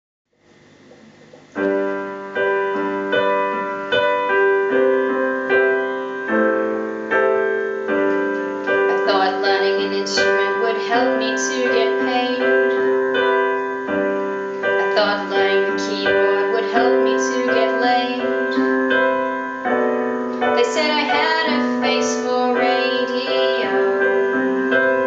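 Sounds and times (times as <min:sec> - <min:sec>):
piano block chords on keyboard: 0:00.4 - 0:25.0.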